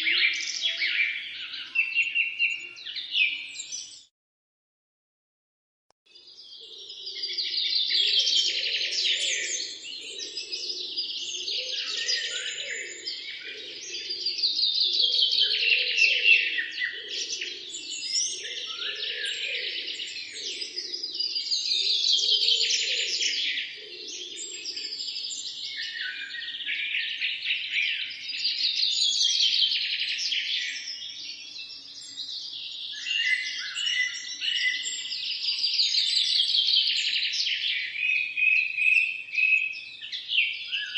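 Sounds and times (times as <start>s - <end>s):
small birds chirping and singing: 0.0s - 4.1s, 6.1s - 40.9s.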